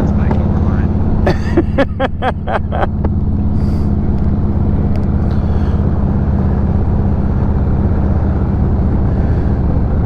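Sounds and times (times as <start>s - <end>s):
motorcycle engines cruising: 0.0s - 10.0s.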